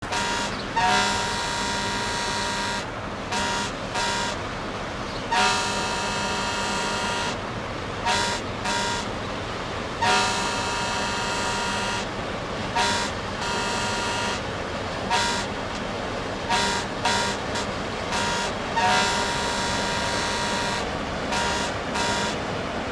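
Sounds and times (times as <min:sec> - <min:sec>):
ship's horn blasts: 0:00.0 - 0:22.9.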